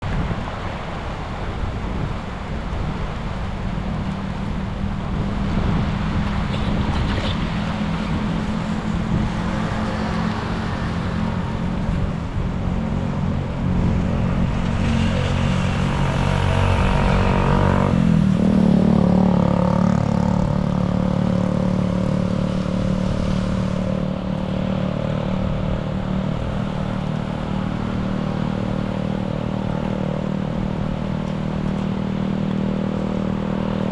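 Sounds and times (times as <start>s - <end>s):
steady rushing noise: 0.0s - 33.9s
engine running: 3.2s - 33.9s.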